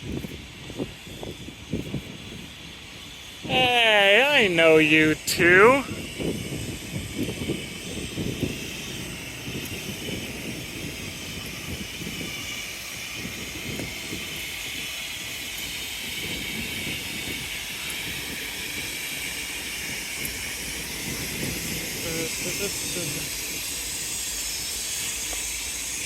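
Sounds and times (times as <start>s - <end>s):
passenger train idling: 0.0s - 26.0s.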